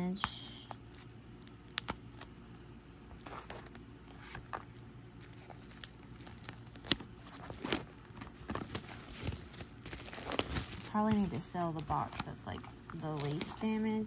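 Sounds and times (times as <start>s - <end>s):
cellophane crinkling: 0.6s - 14.0s.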